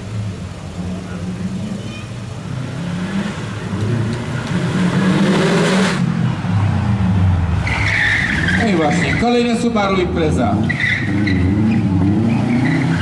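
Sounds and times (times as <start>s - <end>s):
rally car engine revving: 0.0s - 9.2s, 10.1s - 13.0s.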